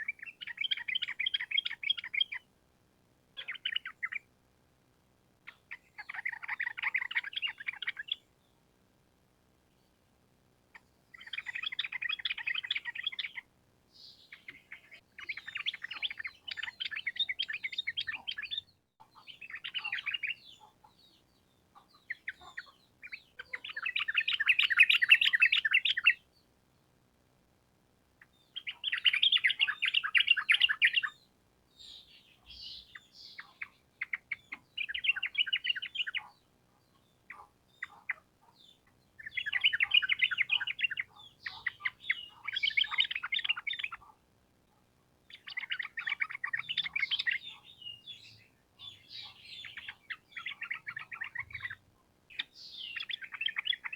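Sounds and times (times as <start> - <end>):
bird rapid chattering song: 0.0 - 2.5, 3.4 - 4.3, 5.5 - 8.3, 10.7 - 26.3, 28.2 - 44.2, 45.3 - 53.9.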